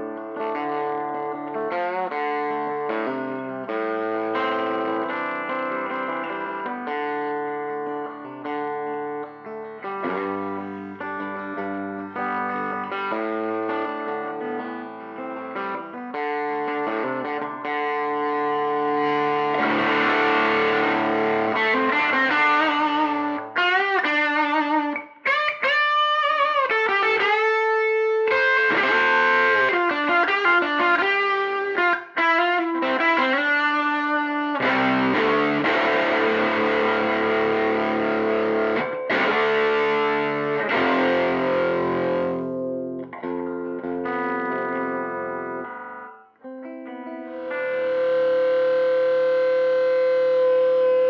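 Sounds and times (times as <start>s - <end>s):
electric guitar chords and notes: 0.0s - 51.0s.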